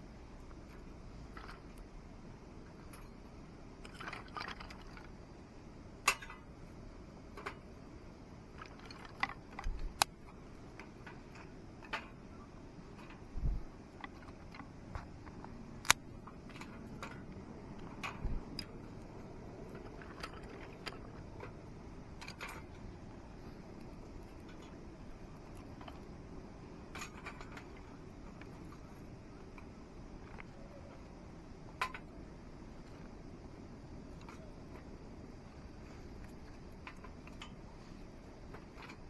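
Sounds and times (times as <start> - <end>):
low steady background noise: 0.0 - 39.0.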